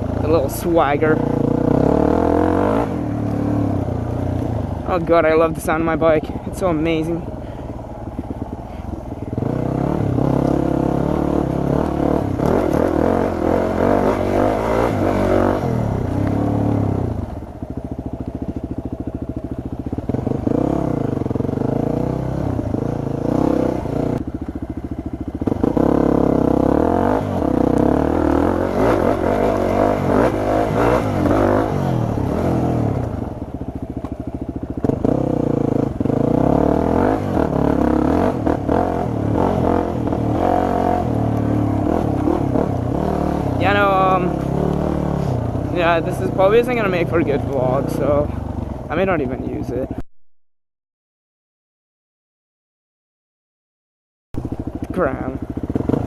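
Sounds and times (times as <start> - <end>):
dirt bike engine revving: 0.0 - 17.8, 18.4 - 50.0, 54.4 - 56.0.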